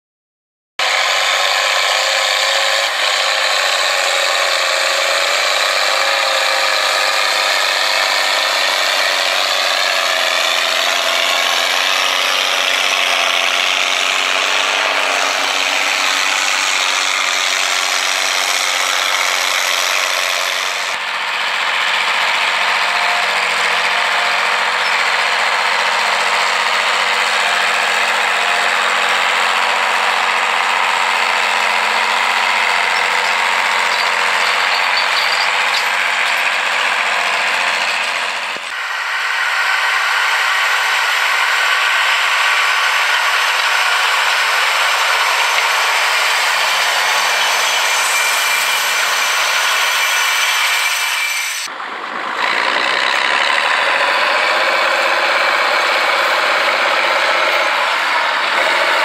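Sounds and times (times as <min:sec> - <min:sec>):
tractor diesel engines running: 0:00.8 - 0:59.0.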